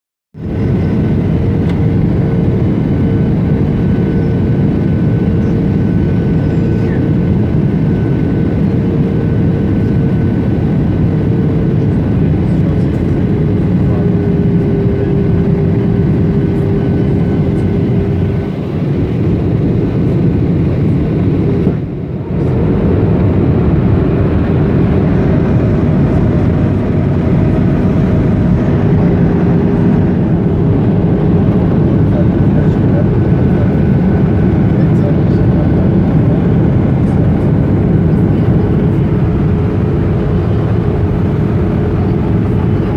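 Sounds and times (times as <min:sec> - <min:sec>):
jet engine roar in cabin: 0:00.4 - 0:42.9
jet engine whine: 0:00.4 - 0:42.9.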